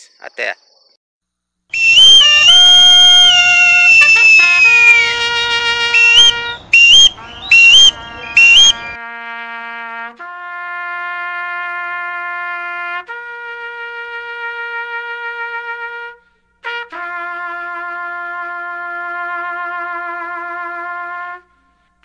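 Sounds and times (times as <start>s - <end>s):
loud trumpet blasts: 1.7s - 21.5s
trumpet long held notes: 1.7s - 21.7s.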